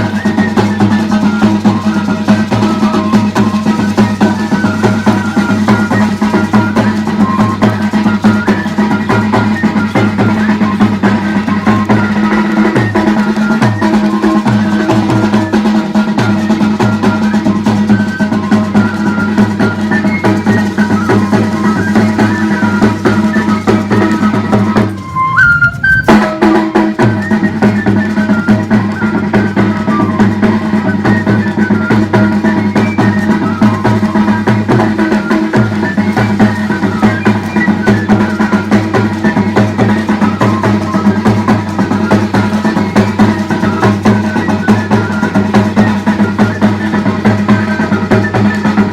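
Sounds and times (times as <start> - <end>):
steady drumming: 0.0 - 48.9
sustained melodic tones: 0.0 - 48.9.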